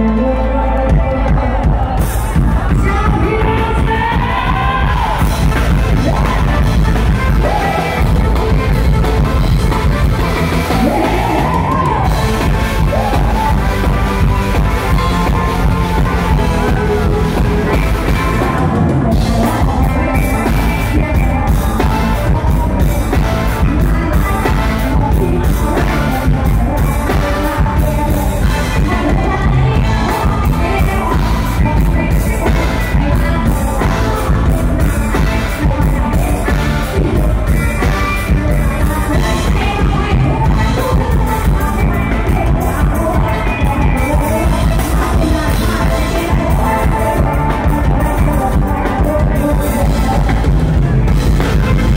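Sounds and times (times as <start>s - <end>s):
heavy bass: 0.0s - 51.9s
live band music: 0.0s - 51.9s
person singing: 0.0s - 51.9s
steady drum beat: 0.9s - 51.9s.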